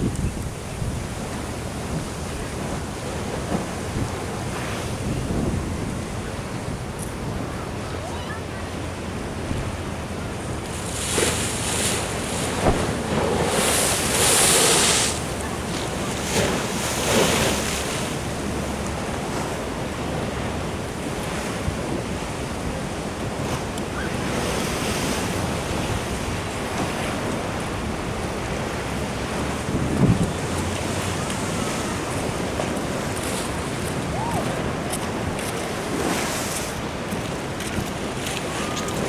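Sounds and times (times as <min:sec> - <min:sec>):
surf washing against sea wall: 0:00.0 - 0:39.0
wind on microphone: 0:00.0 - 0:39.0.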